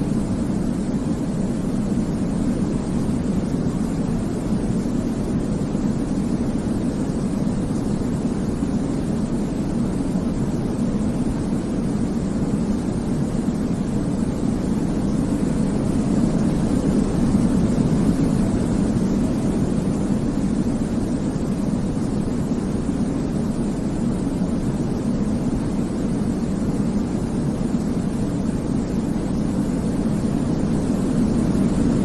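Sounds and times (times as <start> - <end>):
deep white noise rush: 0.0 - 32.0.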